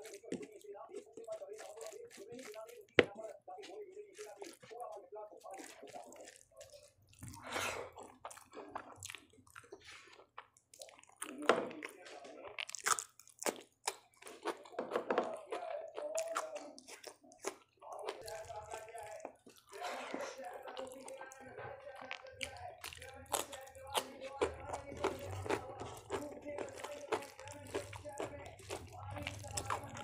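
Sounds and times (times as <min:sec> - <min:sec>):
crisp cucumber crunches: 0:00.0 - 0:07.4, 0:10.8 - 0:30.0
person chewing: 0:00.0 - 0:30.0.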